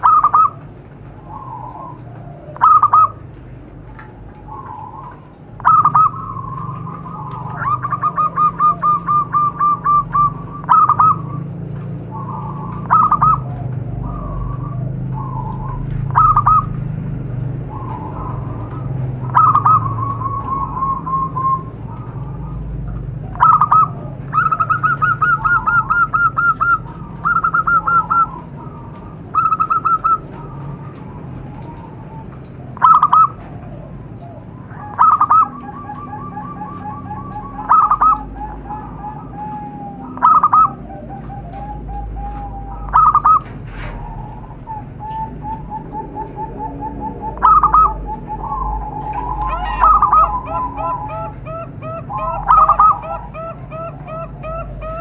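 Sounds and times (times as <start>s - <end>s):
doves cooing trills: 0.0s - 55.0s
lower dove trill: 0.0s - 55.0s.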